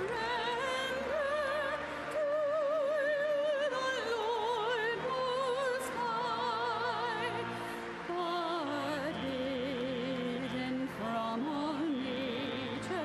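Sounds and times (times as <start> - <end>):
classical singing with vibrato: 0.0 - 13.0
sustained accompaniment: 0.0 - 13.0.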